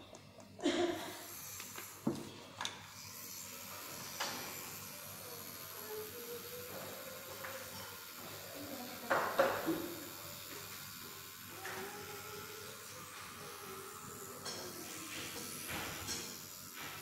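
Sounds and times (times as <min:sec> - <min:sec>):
tattoo machine humming: 0:00.6 - 0:17.0.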